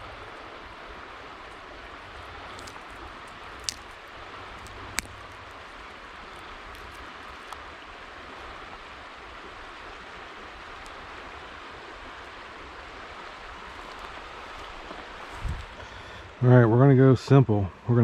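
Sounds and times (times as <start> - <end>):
river water rushing: 0.0 - 16.4.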